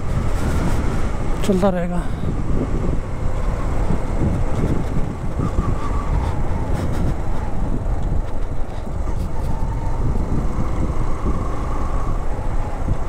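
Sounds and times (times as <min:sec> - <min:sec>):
wind noise on microphone: 0:00.0 - 0:13.0
motorcycle engine running: 0:02.2 - 0:13.0.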